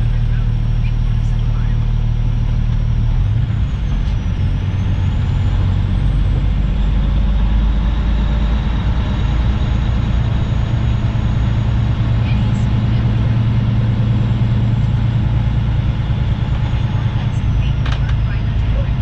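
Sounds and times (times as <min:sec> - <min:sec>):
diesel truck engine humming: 0:00.0 - 0:19.0.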